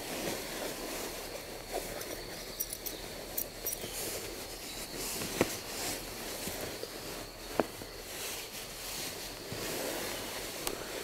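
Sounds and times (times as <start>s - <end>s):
fabric and clothing rustling: 0.0s - 11.0s.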